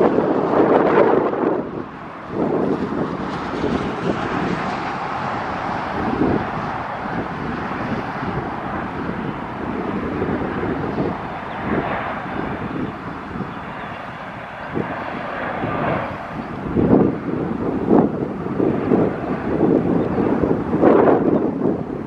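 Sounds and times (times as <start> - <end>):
jet engines rushing overhead: 0.0 - 22.0
wind buffeting microphone: 0.0 - 22.0.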